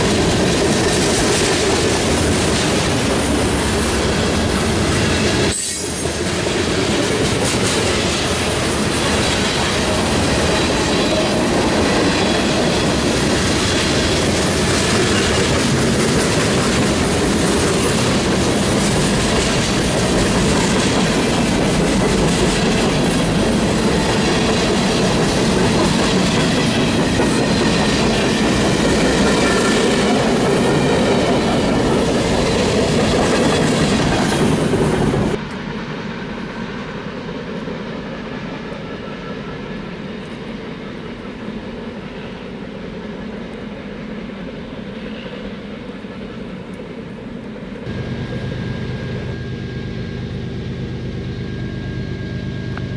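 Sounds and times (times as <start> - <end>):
freight train rumbling past: 0.0 - 52.9.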